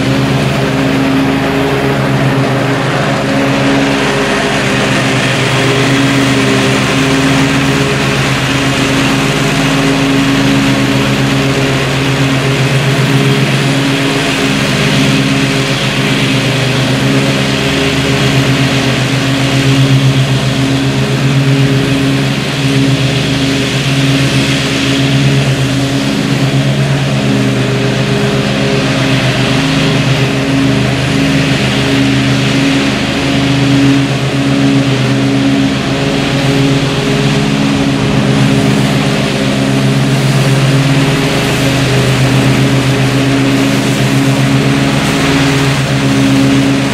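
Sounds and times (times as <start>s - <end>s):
riding mower engine running: 0.0s - 46.9s.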